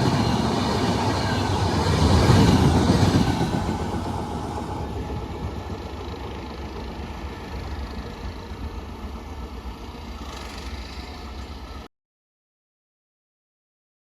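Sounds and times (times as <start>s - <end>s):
passing train rumble: 0.0s - 11.9s.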